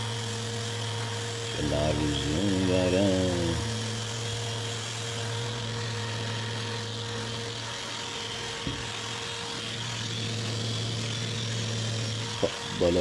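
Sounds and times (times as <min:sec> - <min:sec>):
floor sander humming: 0:00.0 - 0:13.0.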